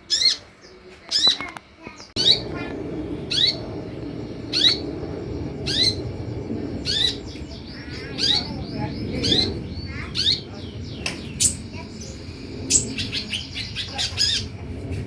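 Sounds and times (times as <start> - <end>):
bird chirping: 0.0 - 14.6
bird twittering: 0.0 - 14.6
steady low rumble: 2.0 - 15.0.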